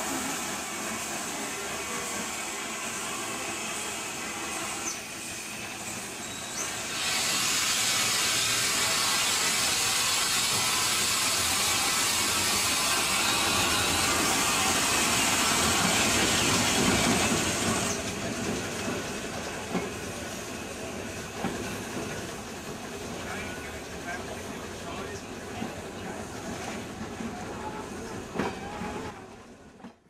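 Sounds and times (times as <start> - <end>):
steam locomotive hissing: 0.0 - 29.5
train rumbling past: 0.0 - 30.0.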